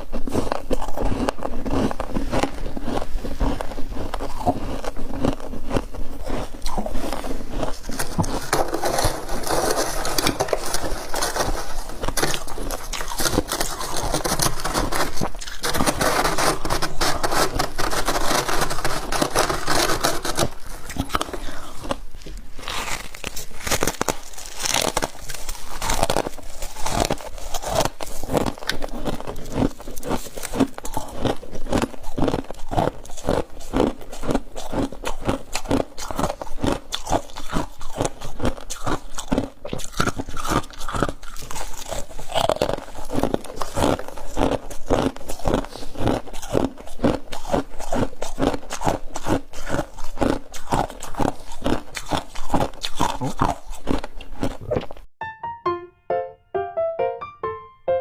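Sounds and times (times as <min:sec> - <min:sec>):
crunching and chewing ice: 0:00.0 - 0:55.1.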